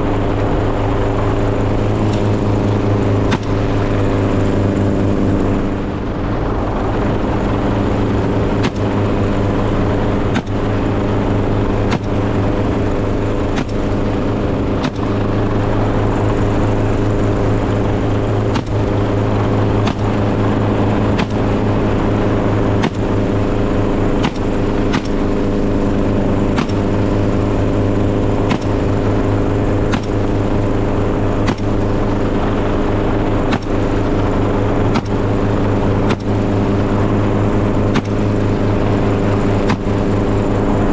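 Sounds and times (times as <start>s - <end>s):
engine low drone: 0.0s - 40.9s.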